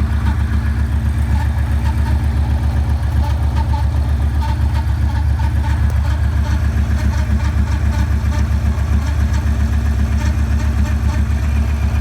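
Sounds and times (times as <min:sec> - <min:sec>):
faint engine ticking: 0:00.0 - 0:12.0
motorcycle engine idling: 0:00.0 - 0:12.0.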